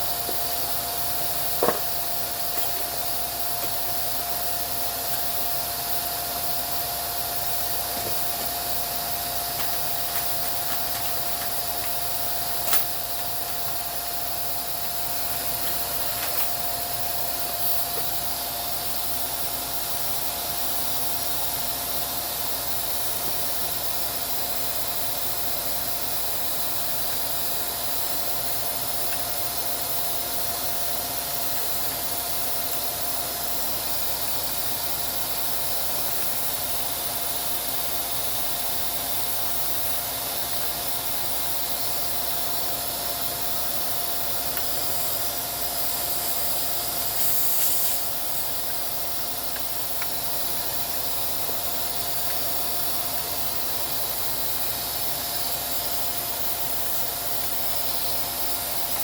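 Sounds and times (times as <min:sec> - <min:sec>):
faint motor whine: 0:00.0 - 0:59.0
motor airflow hiss: 0:00.0 - 0:59.0.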